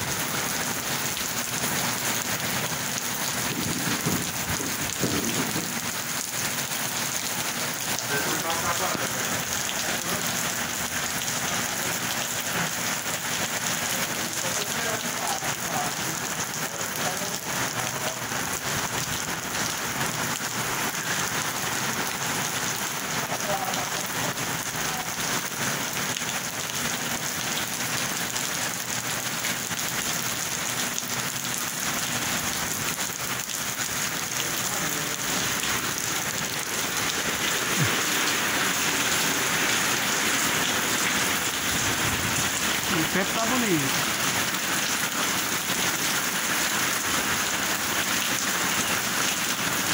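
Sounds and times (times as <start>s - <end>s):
heavy rain splashing in water: 0.0s - 49.9s.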